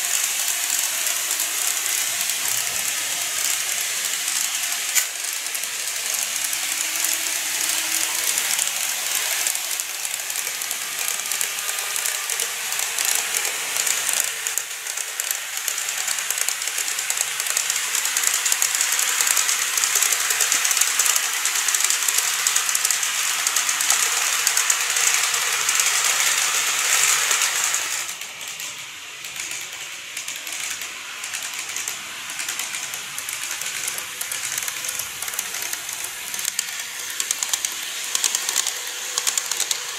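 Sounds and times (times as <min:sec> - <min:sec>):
model train wheels rattling: 0:00.0 - 0:39.9.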